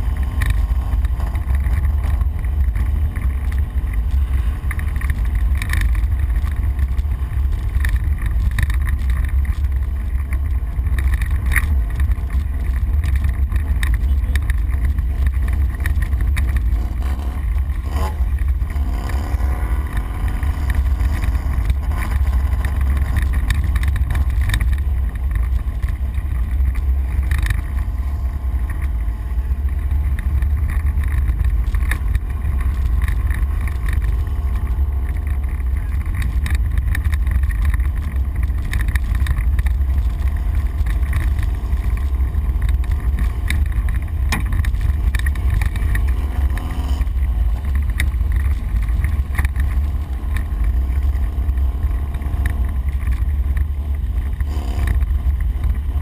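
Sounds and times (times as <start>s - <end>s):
vehicle rumbling over rough ground: 0.0s - 56.0s.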